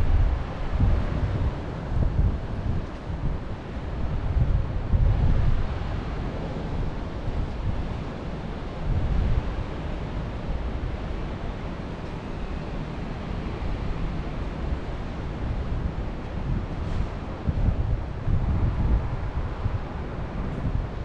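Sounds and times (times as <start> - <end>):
wind buffeting microphone: 0.0 - 21.0
wind rushing through forest: 0.0 - 21.0.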